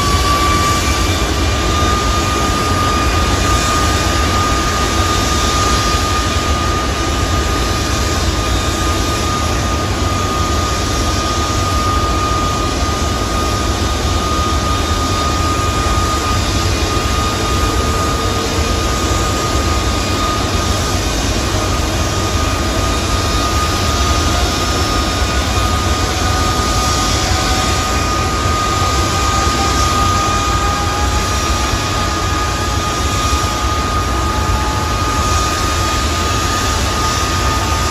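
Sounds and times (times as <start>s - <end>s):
constant high whine: 0.0s - 37.9s
jet engines rumbling: 0.0s - 37.9s
second whine rising in pitch: 0.0s - 37.9s.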